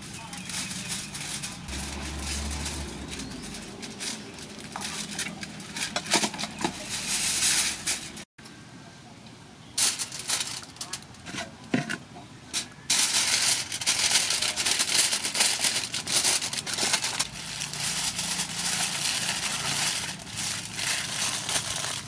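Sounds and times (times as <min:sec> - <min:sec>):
aluminium foil crinkling: 0:00.0 - 0:08.3, 0:09.8 - 0:11.6, 0:12.6 - 0:22.0.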